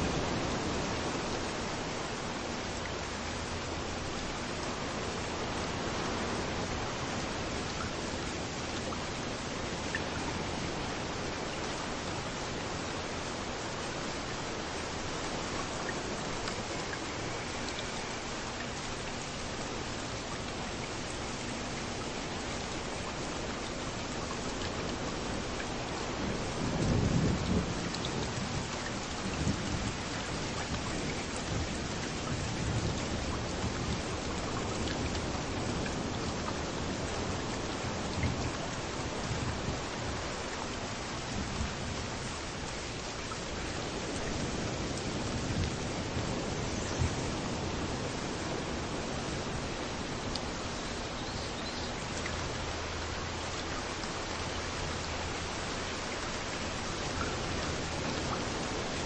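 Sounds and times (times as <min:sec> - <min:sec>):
rain falling: 0:00.0 - 0:59.0
waves rumbling: 0:00.0 - 0:59.0.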